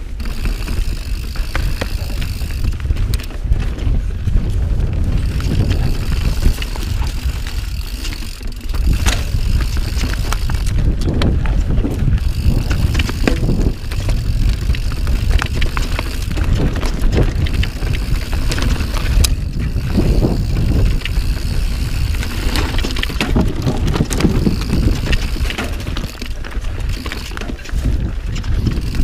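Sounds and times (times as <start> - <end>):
bike rattling over bumps: 0.0 - 29.0
bike tyres rolling on dirt: 0.0 - 29.0
scattered clicks: 0.0 - 29.0
steady low rumble: 0.9 - 27.0.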